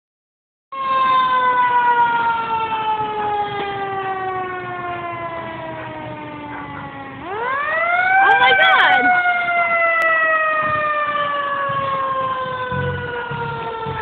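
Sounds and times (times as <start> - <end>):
fire engine siren winding down: 0.7 - 14.0.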